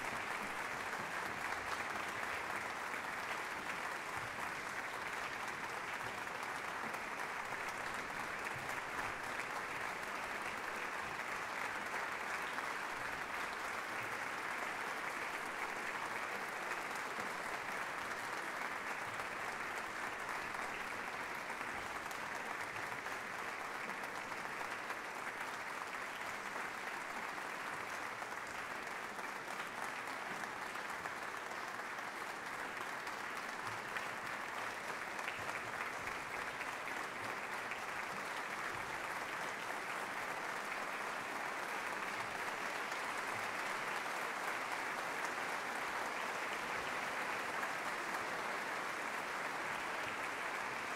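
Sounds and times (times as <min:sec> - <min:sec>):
audience applauding: 0:00.0 - 0:50.9.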